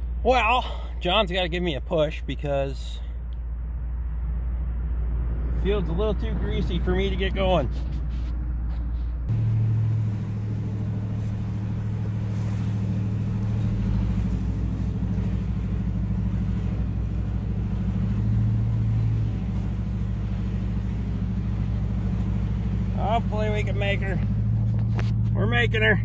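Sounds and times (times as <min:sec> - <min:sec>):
truck engine droning under load: 0:00.0 - 0:26.0.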